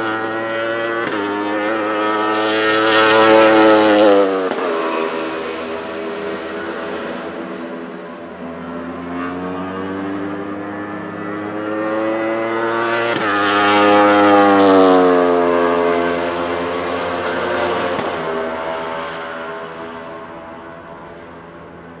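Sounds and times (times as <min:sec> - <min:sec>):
race car engine at full throttle: 0:00.0 - 0:22.0.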